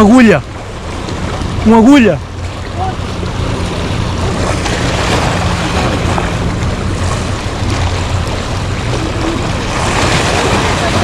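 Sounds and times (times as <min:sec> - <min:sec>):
low steady hum: 0:00.0 - 0:11.0
rushing water: 0:00.0 - 0:11.0
wind: 0:00.0 - 0:11.0.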